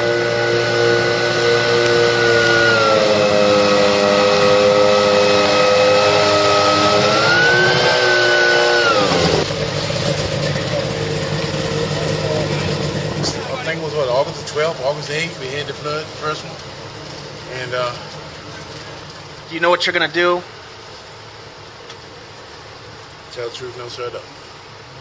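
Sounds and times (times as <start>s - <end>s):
vehicle engine running: 0.0s - 23.2s.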